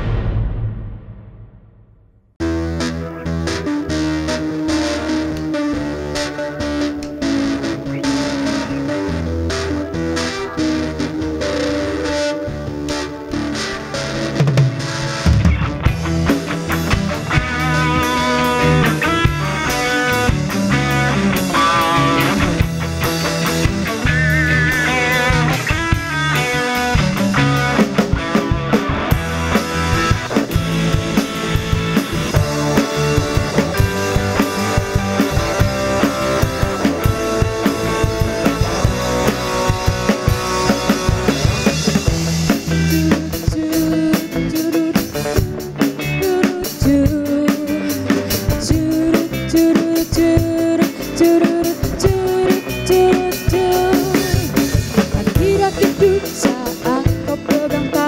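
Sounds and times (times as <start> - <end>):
bass guitar: 0.0 - 58.0
drum kit: 0.0 - 58.0
electric guitars: 2.4 - 58.0.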